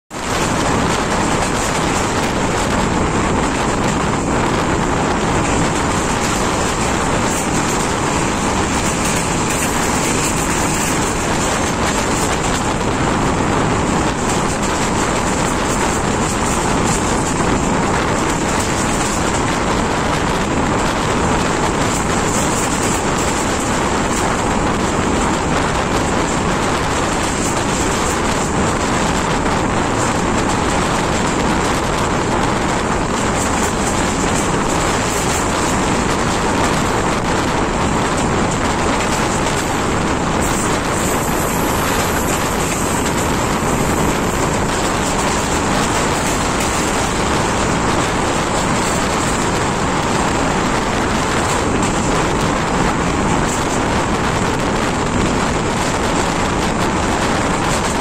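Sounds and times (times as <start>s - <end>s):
air rushing past train: 0.1s - 58.0s
train wheels on rails: 0.1s - 58.0s
wind buffeting microphone: 0.1s - 58.0s.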